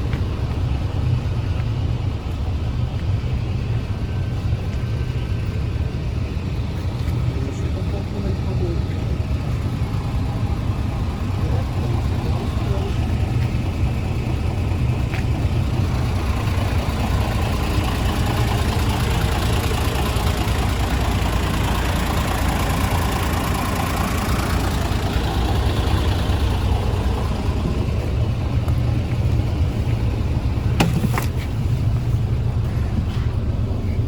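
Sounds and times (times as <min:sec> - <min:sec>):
bus diesel rumble: 0:00.0 - 0:34.0
road noise: 0:00.0 - 0:34.0.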